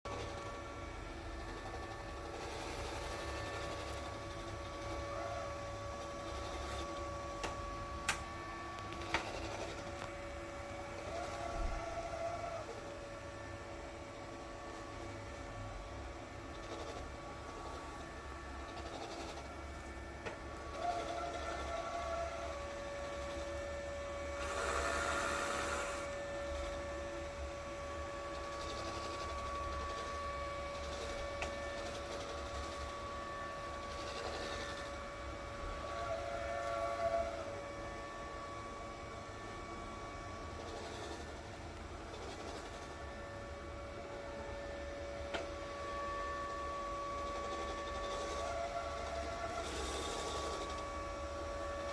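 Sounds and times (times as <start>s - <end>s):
robot vacuum motor hum: 0.1s - 51.9s.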